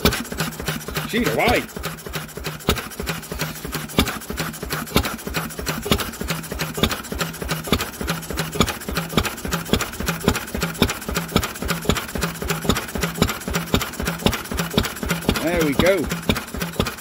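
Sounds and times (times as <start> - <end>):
petrol engine running: 0.0 - 17.0
valve gear ticking: 0.0 - 17.0.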